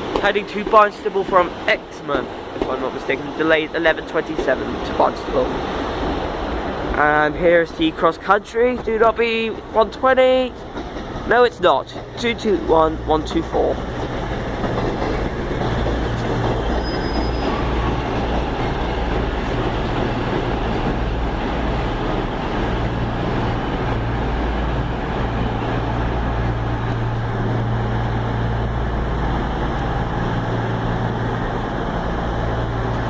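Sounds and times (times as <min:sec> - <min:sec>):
diesel train engine drone: 0:00.0 - 0:33.0.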